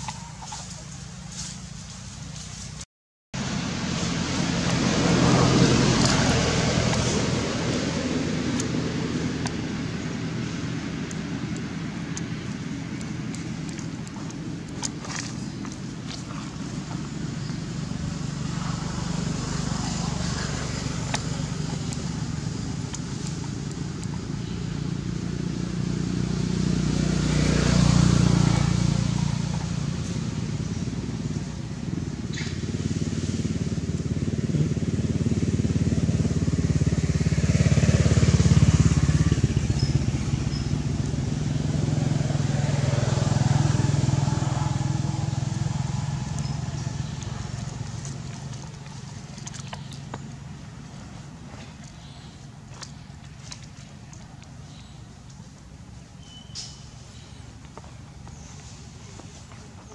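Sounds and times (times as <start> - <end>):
motor vehicle engine drone: 3.4 - 59.9.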